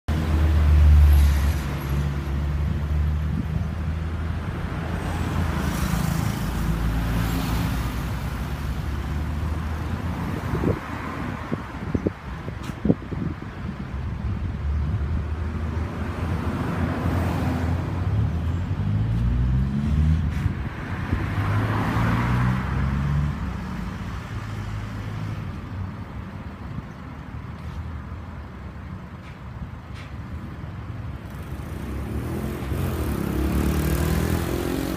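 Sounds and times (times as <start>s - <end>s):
traffic and road noise: 0.0s - 34.9s.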